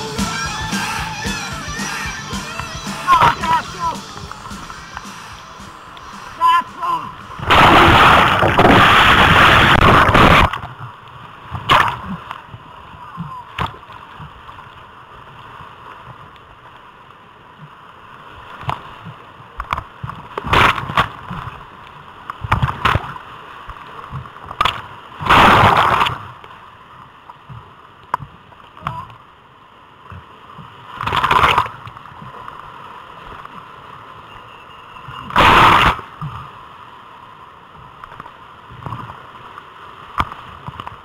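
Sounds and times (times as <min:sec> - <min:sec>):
whitewater river gurgling and splashing: 0:00.0 - 0:41.0.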